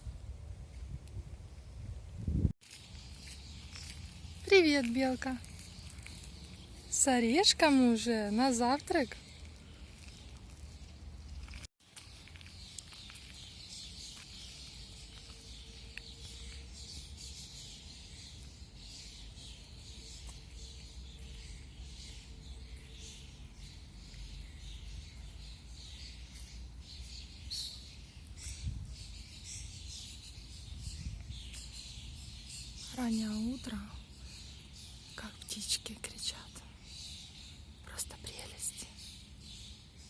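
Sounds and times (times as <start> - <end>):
songbirds chirping: 2.6 - 40.0.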